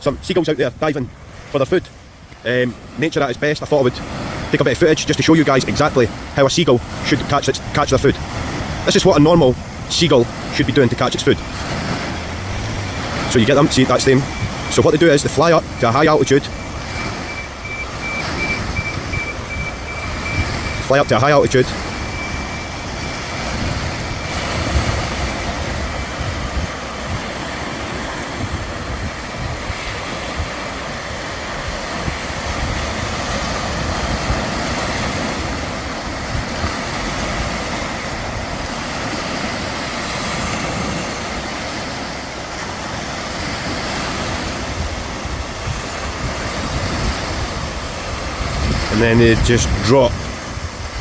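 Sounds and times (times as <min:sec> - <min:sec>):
surf: 0:00.0 - 0:51.0
wind: 0:00.0 - 0:51.0
wind rumbling on microphone: 0:00.0 - 0:51.0.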